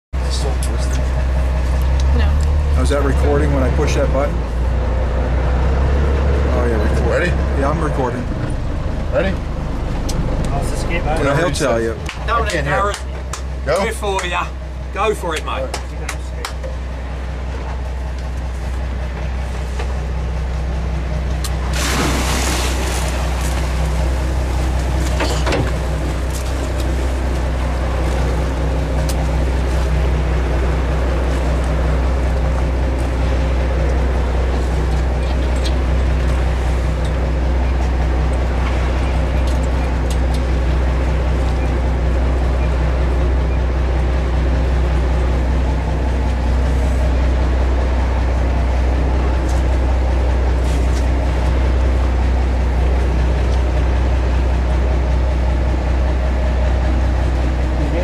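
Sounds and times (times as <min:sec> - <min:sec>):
boat engine droning: 0:00.2 - 0:58.0.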